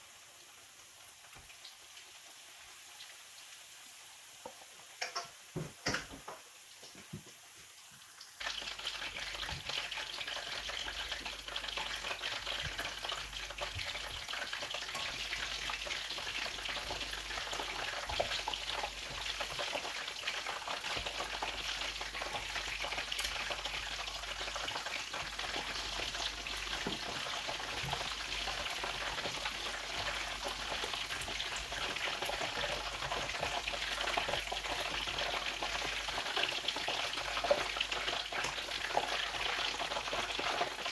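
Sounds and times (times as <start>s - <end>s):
chicken frying in hot oil: 0.0s - 40.9s.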